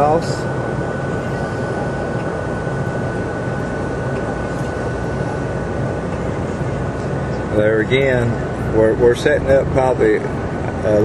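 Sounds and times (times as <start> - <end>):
air-conditioning hum: 0.0 - 11.0
bus engine rumble: 0.0 - 11.0
high whine: 0.0 - 11.0.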